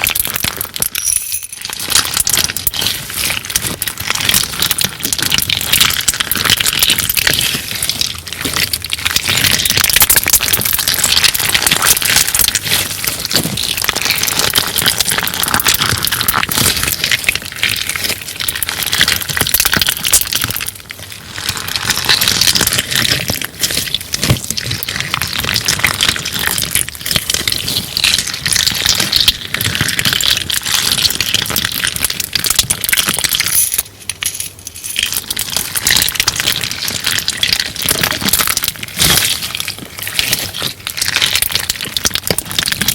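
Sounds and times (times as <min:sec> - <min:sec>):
crunchy slime crackling: 0:00.0 - 0:42.9.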